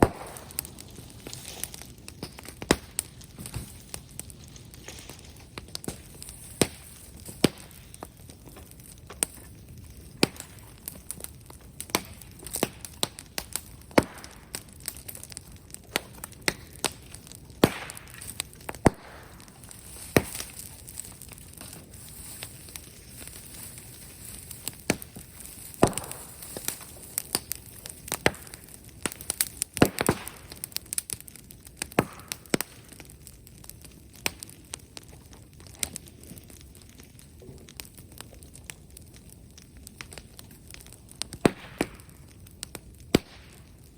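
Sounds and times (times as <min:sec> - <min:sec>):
bonfire crackling and snapping: 0:00.0 - 0:43.9.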